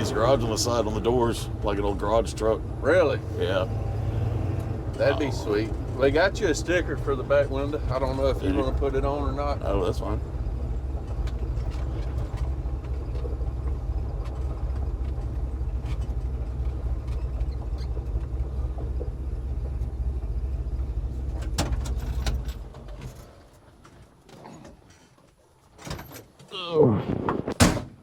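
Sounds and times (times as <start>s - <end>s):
engine running: 0.0s - 23.4s
road noise: 0.0s - 25.4s.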